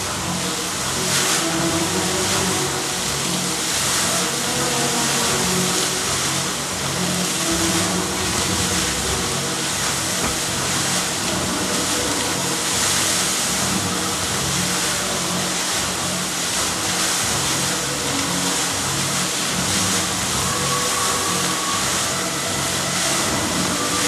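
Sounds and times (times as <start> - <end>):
fountain water splashing: 0.0 - 24.0.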